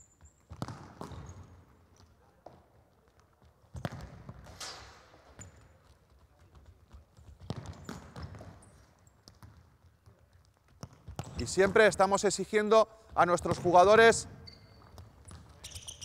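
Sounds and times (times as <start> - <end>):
balls kicked and bouncing on wooden court: 0.0 - 16.0.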